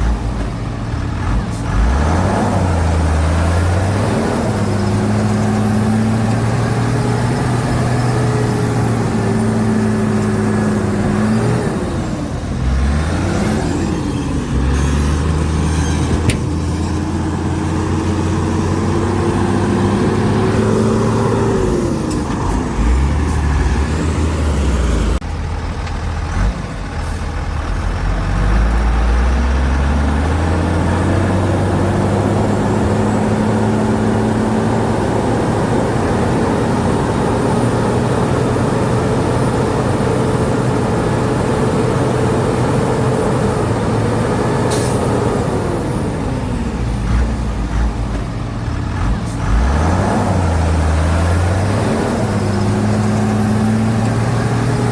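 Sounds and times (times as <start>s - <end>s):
bulldozer diesel engine whining: 0.0s - 54.9s.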